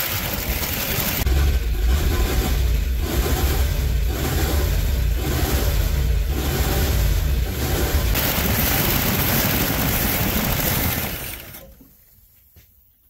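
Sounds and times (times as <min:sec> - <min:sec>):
car engine running: 0:00.0 - 0:11.6.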